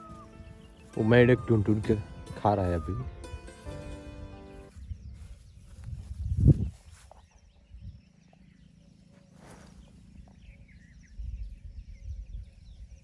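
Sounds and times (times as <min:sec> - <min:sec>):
faint bird chirps: 0:00.0 - 0:03.1, 0:04.7 - 0:13.0
wind buffeting microphone: 0:00.0 - 0:08.7, 0:09.6 - 0:13.0.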